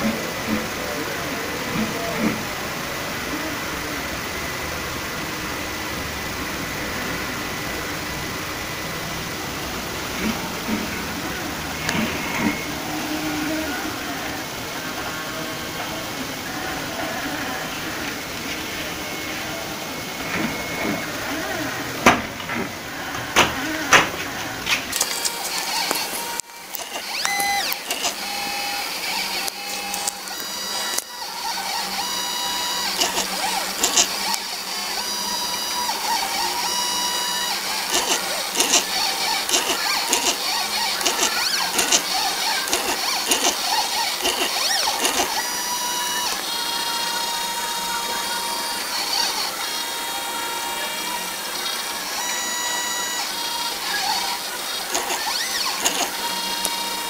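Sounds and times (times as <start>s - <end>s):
stepper motors whining: 0.0s - 57.0s.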